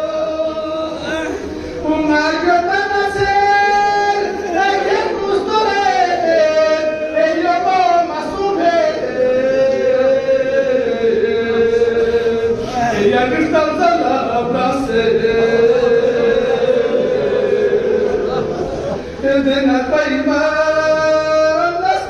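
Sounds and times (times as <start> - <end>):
man chanting unaccompanied: 0.0 - 22.0.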